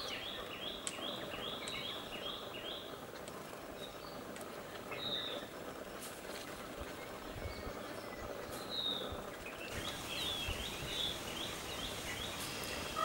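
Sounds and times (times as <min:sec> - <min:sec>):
quiet outdoor background noise: 0:00.0 - 0:13.0
songbird chirps: 0:00.0 - 0:13.0.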